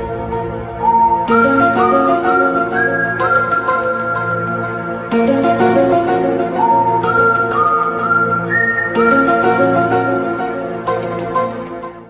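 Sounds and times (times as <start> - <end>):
flute-like held notes: 0.8 - 11.0.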